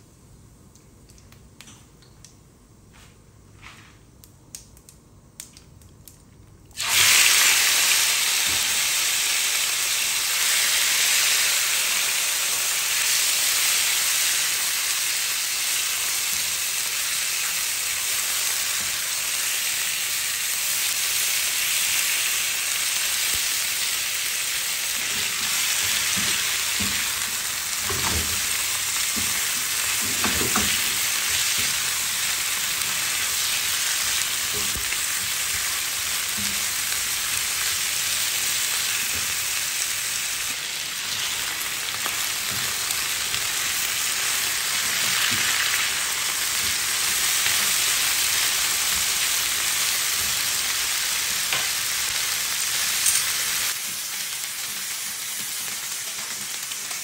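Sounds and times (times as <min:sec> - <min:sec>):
chicken sizzling in hot oil: 0:06.8 - 0:57.0.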